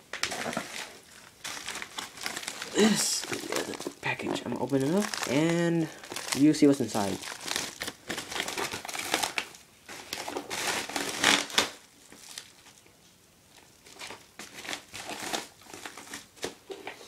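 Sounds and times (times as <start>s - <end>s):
packaging rustling and crinkling: 0.0s - 17.0s.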